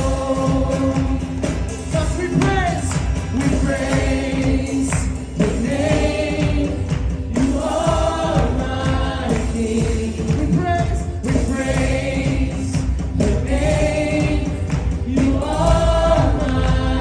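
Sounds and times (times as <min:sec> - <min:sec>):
beat with bass: 0:00.0 - 0:17.0
gospel choir singing: 0:00.0 - 0:17.0.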